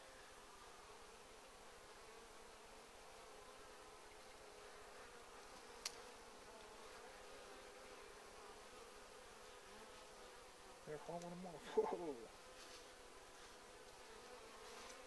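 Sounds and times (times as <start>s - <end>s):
bees buzzing: 0.1s - 15.0s.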